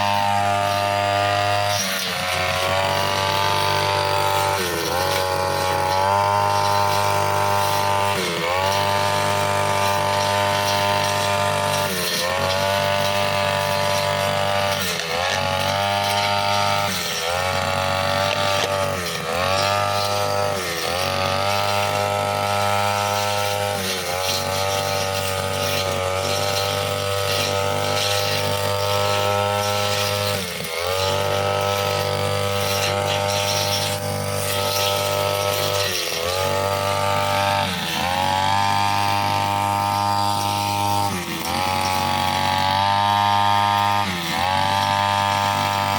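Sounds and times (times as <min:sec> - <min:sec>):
brushcutter running at high revs: 0:00.0 - 0:45.9.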